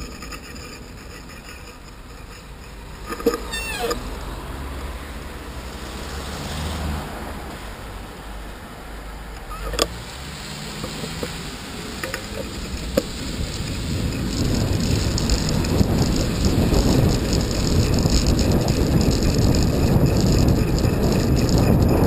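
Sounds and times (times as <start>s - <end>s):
wind and tyre noise: 0.0s - 22.0s.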